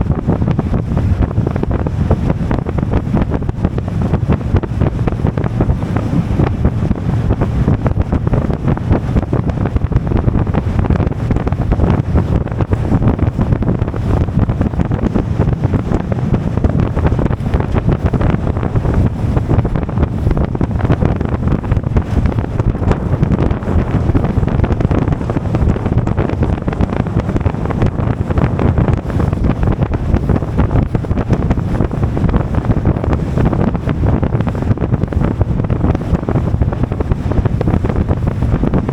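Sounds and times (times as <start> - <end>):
boat running noise: 0.0 - 38.9
water: 0.0 - 38.9
wind rushing over microphone: 0.0 - 38.9.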